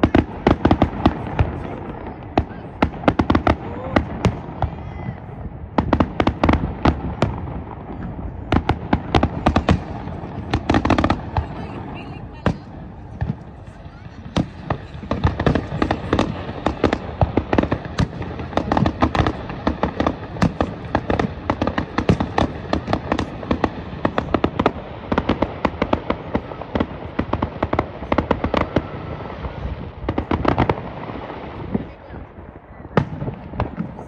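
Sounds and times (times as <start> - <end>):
fireworks bangs and pops: 0.0 - 34.0.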